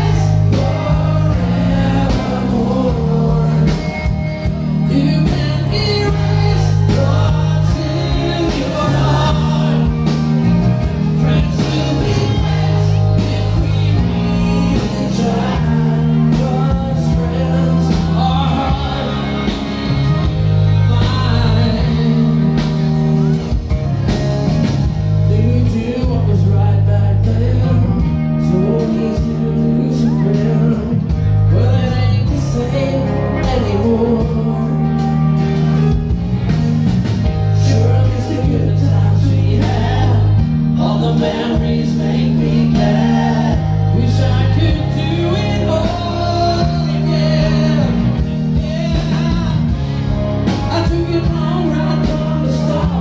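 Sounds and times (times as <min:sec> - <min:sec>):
person singing: 0:00.0 - 0:23.7, 0:25.2 - 0:36.0, 0:37.5 - 0:53.0
rock band playing live: 0:00.0 - 0:53.0.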